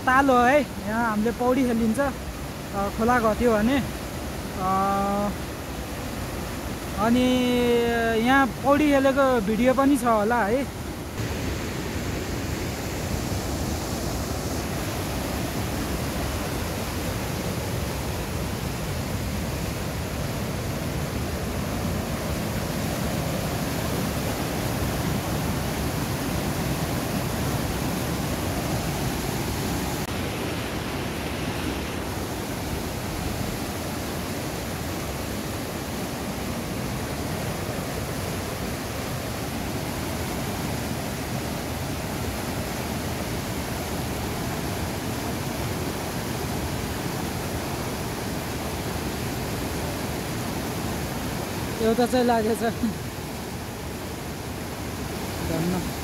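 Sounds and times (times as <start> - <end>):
water rushing over boulders: 0.0 - 56.0.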